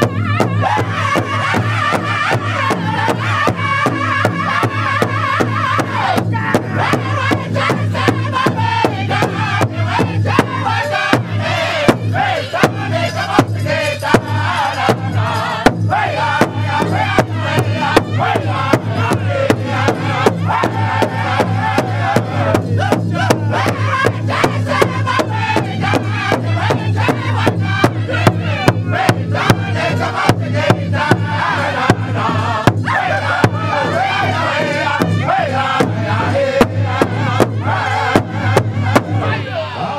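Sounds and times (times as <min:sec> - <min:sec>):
large hand drum beating: 0:00.0 - 0:39.4
group singing in high voices: 0:00.0 - 0:39.9.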